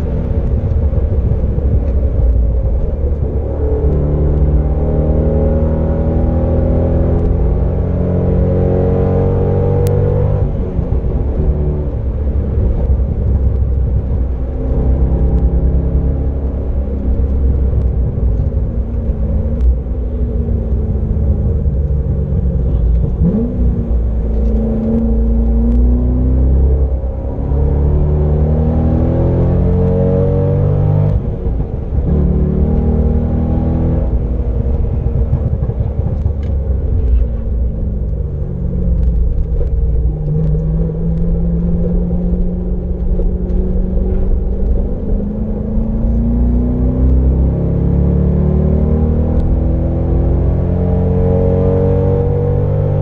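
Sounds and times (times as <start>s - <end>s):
car engine accelerating: 0.0s - 53.0s
heavy low rumble: 0.0s - 53.0s.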